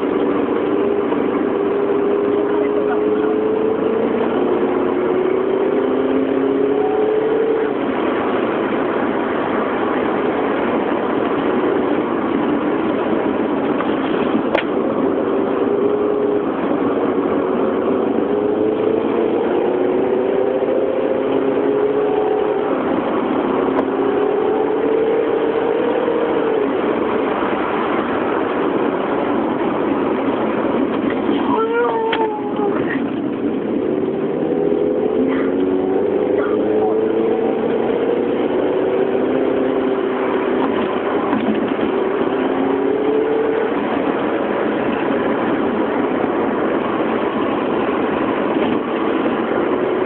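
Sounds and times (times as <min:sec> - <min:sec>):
car engine accelerating: 0:00.0 - 0:50.0
road and wind noise: 0:00.0 - 0:50.0.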